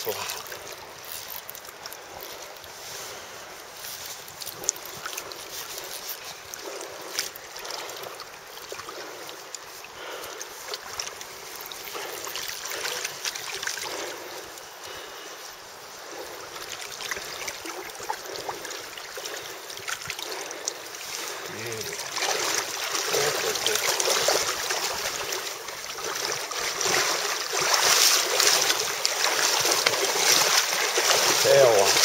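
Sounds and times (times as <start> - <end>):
river water running and lapping: 0.0 - 32.0.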